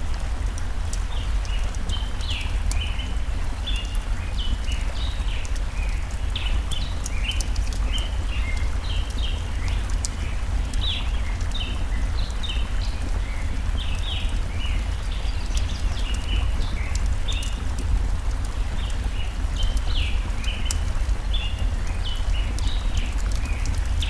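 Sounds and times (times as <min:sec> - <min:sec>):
flowing stream: 0:00.0 - 0:24.0
wood fire popping and crackling: 0:00.0 - 0:24.0.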